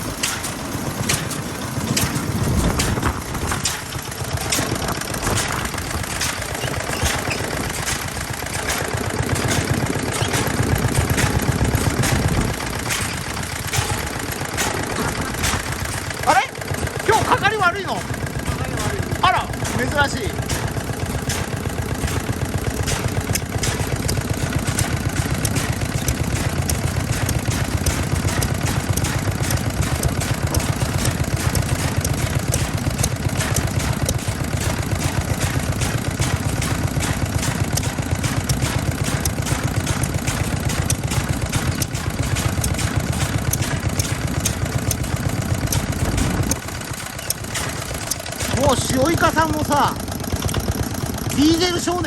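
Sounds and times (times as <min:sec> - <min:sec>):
stationary engine running: 0:00.0 - 0:52.0.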